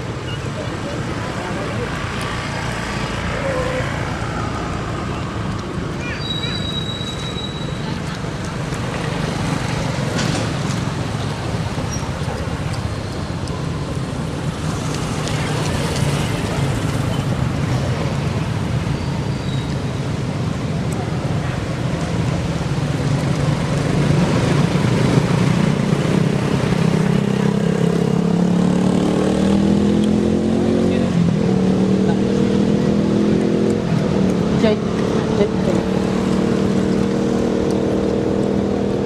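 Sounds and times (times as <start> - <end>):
traffic noise: 0.0 - 39.0.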